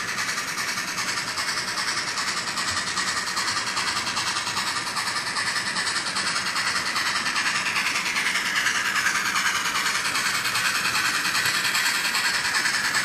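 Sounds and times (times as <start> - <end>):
model steam locomotive chuffs: 0.0 - 13.0.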